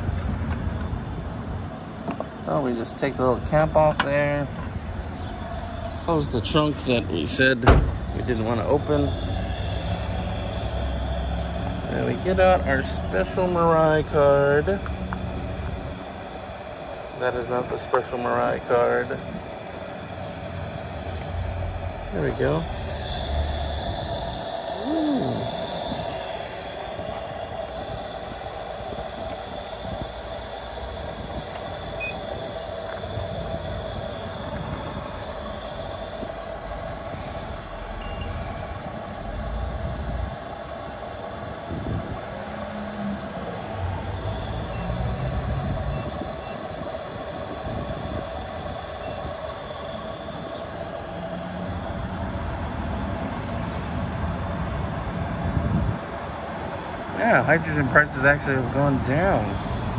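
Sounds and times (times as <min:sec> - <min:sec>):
fuel dispenser humming: 0:00.0 - 0:59.9
high-pitched whine: 0:00.0 - 0:59.9.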